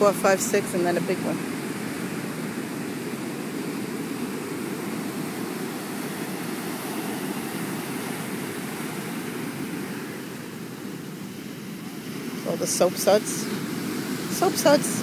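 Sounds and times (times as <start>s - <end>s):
waves rushing on beach: 0.0s - 15.0s.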